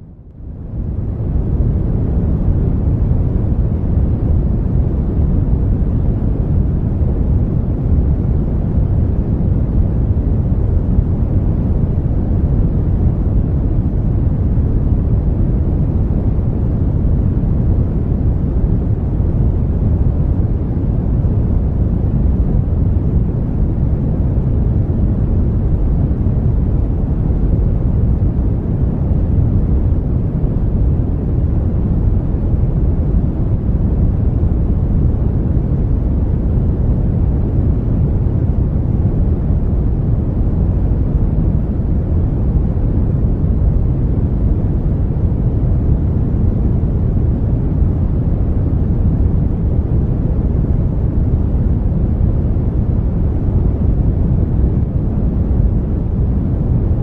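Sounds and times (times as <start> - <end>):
brown noise rumble: 0.0 - 57.0.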